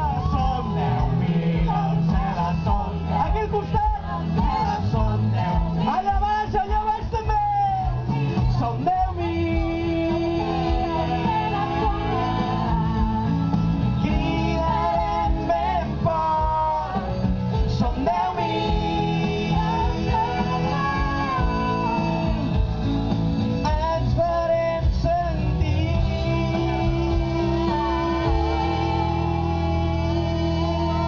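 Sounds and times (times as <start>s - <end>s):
male and female voices singing: 0.0s - 22.8s, 23.6s - 31.0s
instrumental backing: 0.0s - 31.0s.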